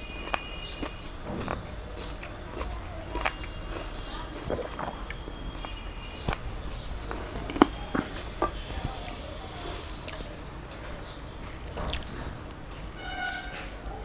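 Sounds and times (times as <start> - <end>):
fingers mixing food on plate: 0.2 - 14.0.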